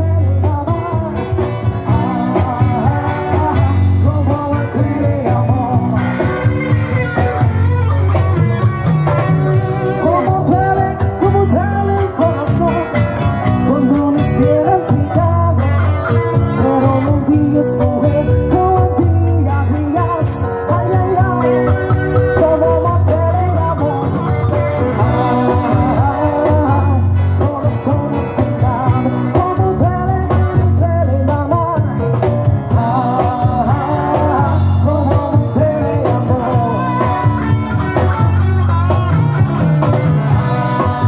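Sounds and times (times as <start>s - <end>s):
person singing: 0.0s - 39.5s, 40.2s - 41.0s
drums: 0.0s - 41.0s
electric guitar: 0.0s - 41.0s
live band playing amplified music: 0.0s - 41.0s.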